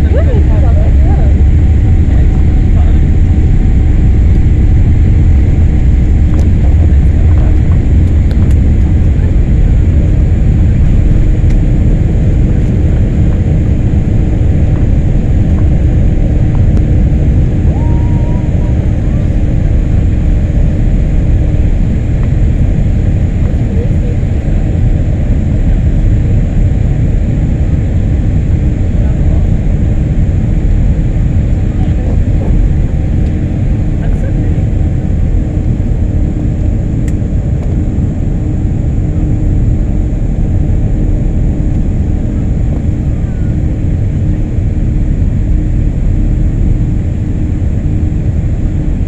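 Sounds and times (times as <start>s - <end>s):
jet engines roaring in cabin: 0.0s - 49.0s
steady hum: 0.0s - 49.0s.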